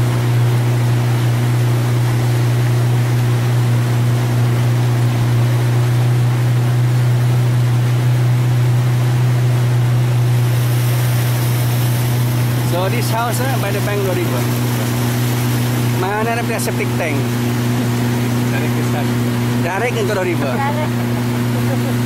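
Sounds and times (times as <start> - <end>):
outboard motor droning: 0.0 - 22.0
rushing water: 0.0 - 22.0.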